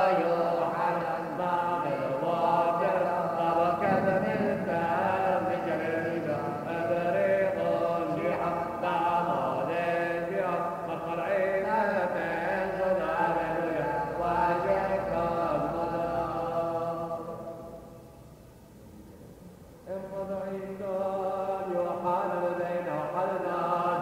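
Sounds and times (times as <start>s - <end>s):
liturgical chant: 0.0s - 18.3s, 19.8s - 24.0s.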